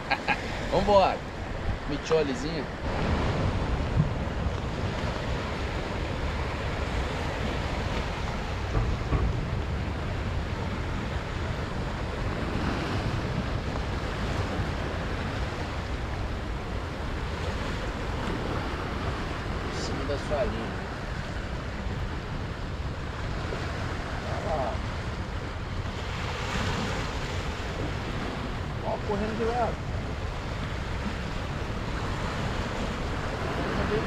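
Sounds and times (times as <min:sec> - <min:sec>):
surf washing on rocky shore: 0:00.0 - 0:34.0
wind rumbling on microphone: 0:00.0 - 0:34.0.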